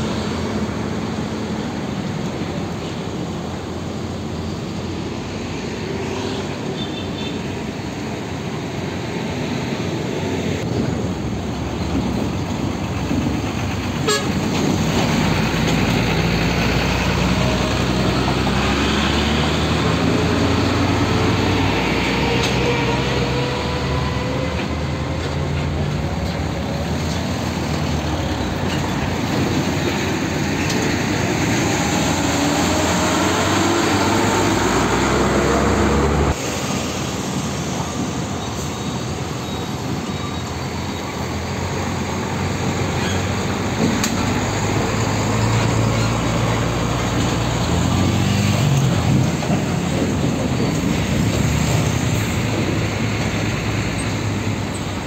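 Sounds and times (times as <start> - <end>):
diesel trucks accelerating past: 0.0 - 55.0.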